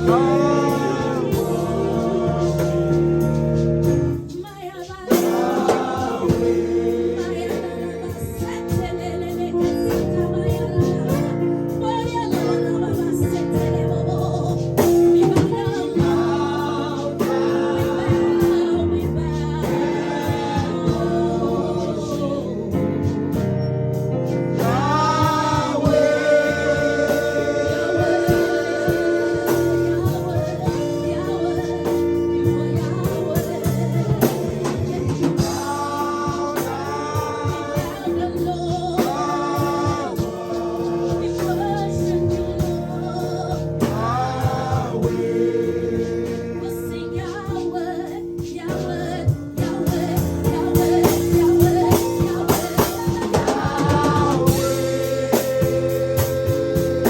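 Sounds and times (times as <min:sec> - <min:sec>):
gospel singing over held chords: 0:00.0 - 0:57.0.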